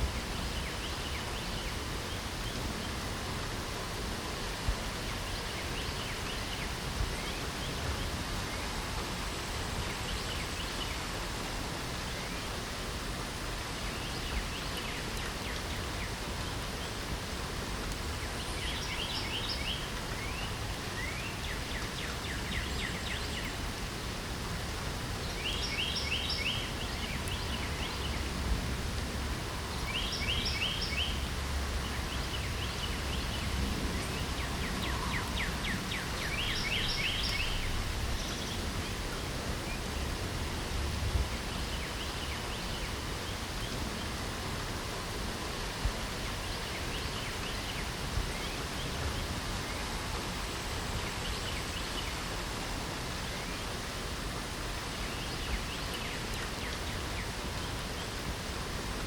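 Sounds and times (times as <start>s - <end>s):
light rain falling: 0.0s - 59.0s
songbirds chirping: 0.0s - 59.0s.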